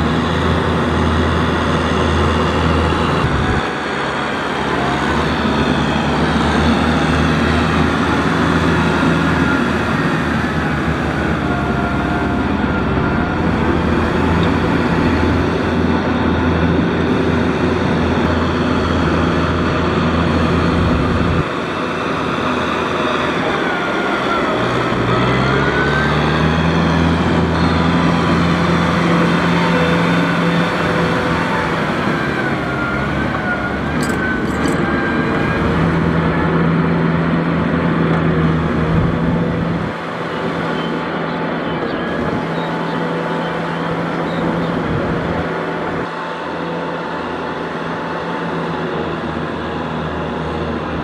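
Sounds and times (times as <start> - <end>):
tractor diesel engine under load: 0.0 - 51.0.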